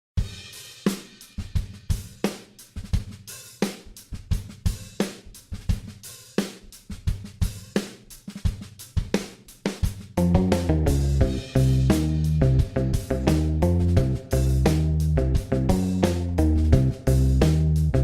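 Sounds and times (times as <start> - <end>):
drum kit playing a steady beat: 0.2 - 18.0.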